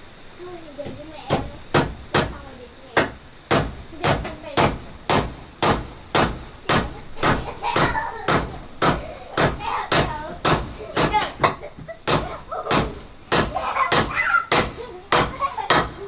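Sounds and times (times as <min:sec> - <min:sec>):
hammer striking wood: 0:00.8 - 0:02.4, 0:03.0 - 0:16.0.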